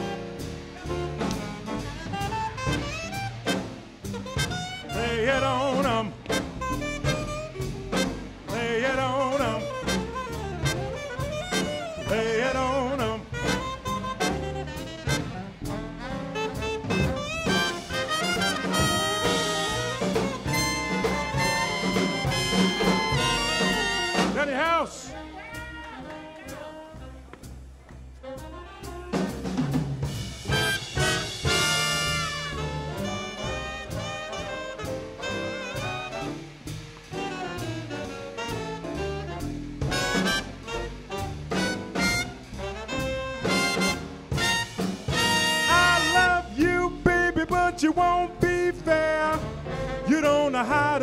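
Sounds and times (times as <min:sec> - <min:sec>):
saxophone solo: 0:00.0 - 0:27.2, 0:28.2 - 0:29.6, 0:30.2 - 0:47.0, 0:48.8 - 0:50.5
trumpets and trombones chords: 0:00.0 - 0:27.2, 0:28.2 - 0:51.0
drums and bass swing beat: 0:00.0 - 0:51.0.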